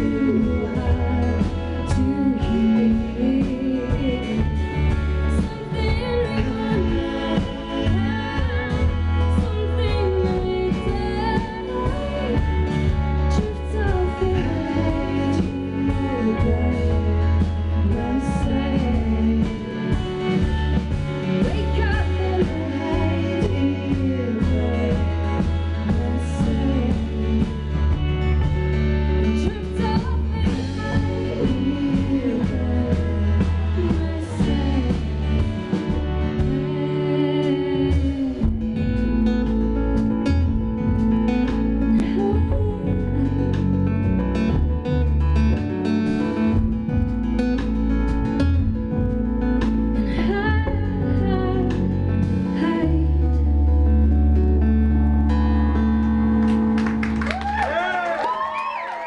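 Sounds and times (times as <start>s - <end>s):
woman singing: 0.0s - 44.8s, 49.6s - 55.6s
live band playing folk-pop: 0.0s - 59.0s.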